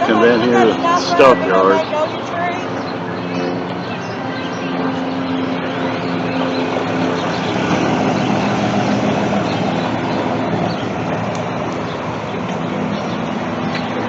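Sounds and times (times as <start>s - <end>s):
street noise: 0.0s - 14.0s
vehicle engine humming: 0.0s - 14.0s.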